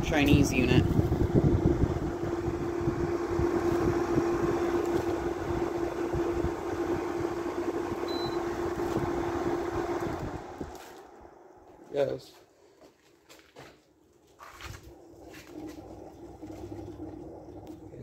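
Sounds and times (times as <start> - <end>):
air conditioner fan rushing: 0.0 - 12.3, 13.4 - 18.0
compressor hum: 0.0 - 18.0.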